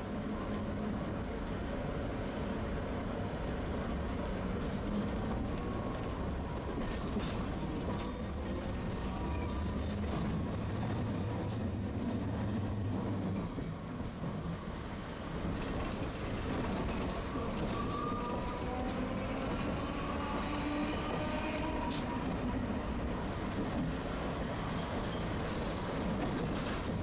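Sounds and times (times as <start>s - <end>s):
streetcar wheels and motors rumbling: 0.0s - 27.0s.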